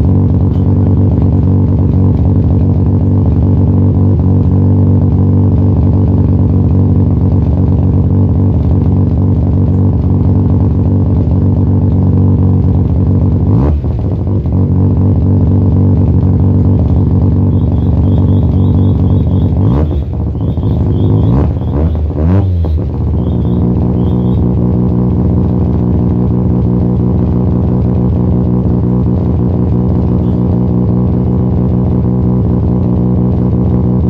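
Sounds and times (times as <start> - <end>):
rotary engine idling and revving: 0.0 - 34.0.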